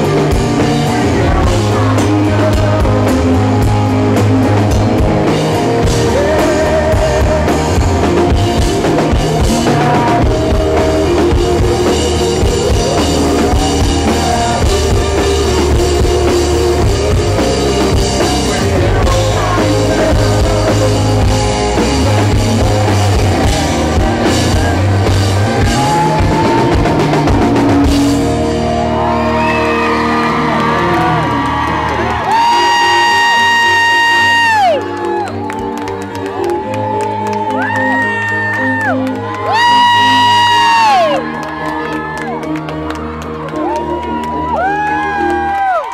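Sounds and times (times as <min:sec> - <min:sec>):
lead singer singing: 0:00.0 - 0:41.4
drum kit: 0:00.0 - 0:41.6
electric guitar: 0:00.0 - 0:45.9
live rock band: 0:00.0 - 0:45.9.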